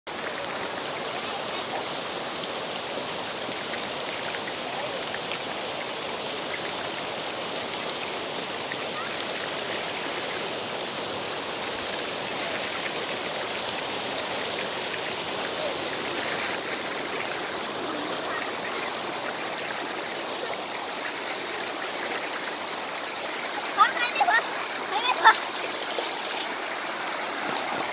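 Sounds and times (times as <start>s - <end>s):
creek water running over rock: 0.1s - 27.9s.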